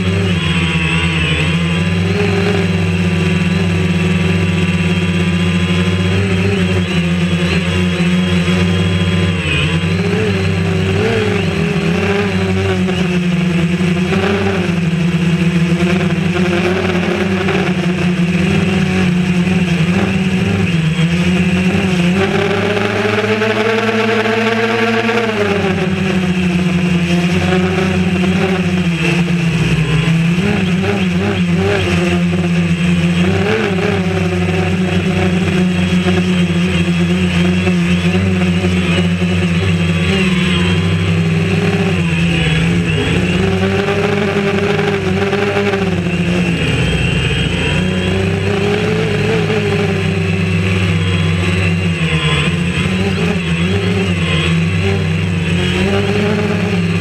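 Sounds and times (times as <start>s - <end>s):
drone motors and propellers whining: 0.0s - 57.0s.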